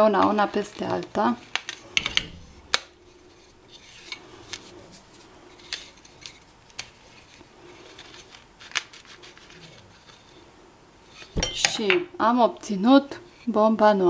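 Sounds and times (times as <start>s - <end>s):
scraping and rubbing: 0.0s - 11.4s.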